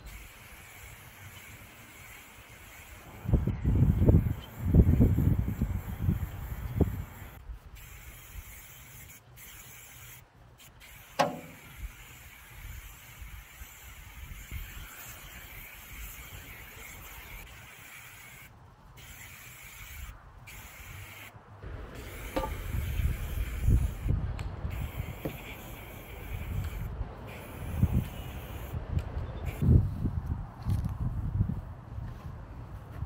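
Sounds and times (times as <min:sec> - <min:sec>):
spray paint can hissing: 0:00.0 - 0:28.8, 0:29.4 - 0:29.6.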